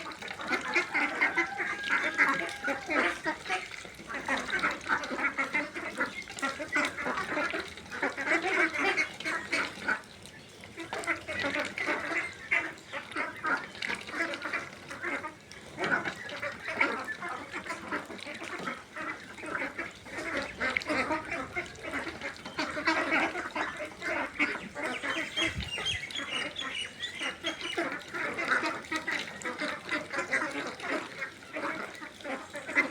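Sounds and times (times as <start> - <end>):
ducks quacking: 0.0 - 10.1, 10.7 - 32.9.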